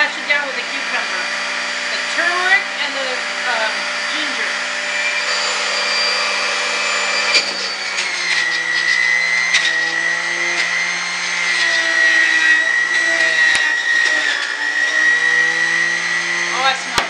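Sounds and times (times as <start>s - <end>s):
juicer motor whining: 0.0s - 17.0s.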